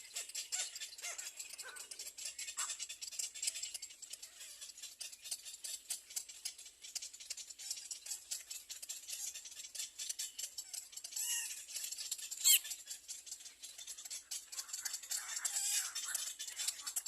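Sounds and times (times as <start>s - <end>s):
nestlings begging with clicking rattle: 0.0s - 17.0s.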